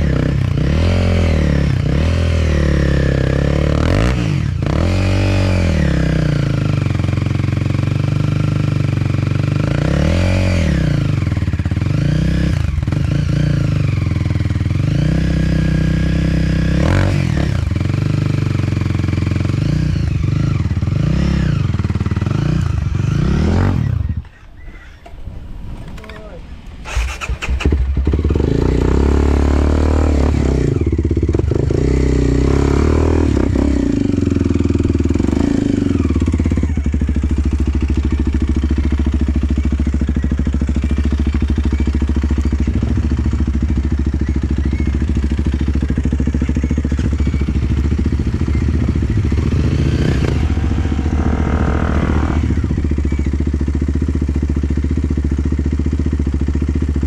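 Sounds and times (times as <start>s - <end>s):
dirt bike engine revving and idling: 0.0s - 25.1s, 25.8s - 57.0s.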